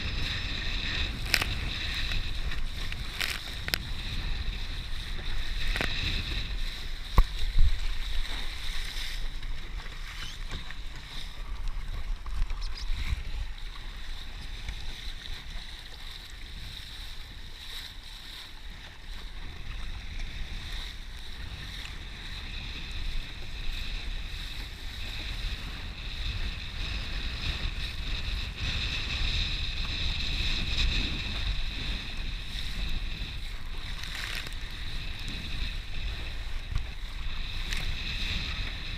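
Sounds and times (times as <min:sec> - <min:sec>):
water rushing past boat: 0:00.0 - 0:38.9
wind buffeting microphone: 0:00.0 - 0:38.9.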